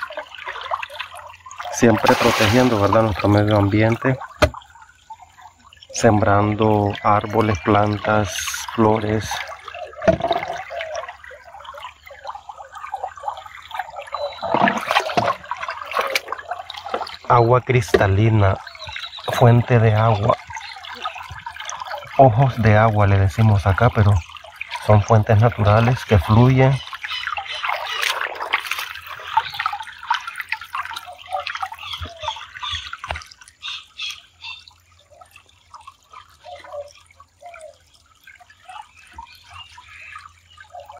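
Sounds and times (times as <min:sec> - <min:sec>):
stream flowing over stones: 0:00.0 - 0:40.9
water dripping: 0:00.0 - 0:40.9.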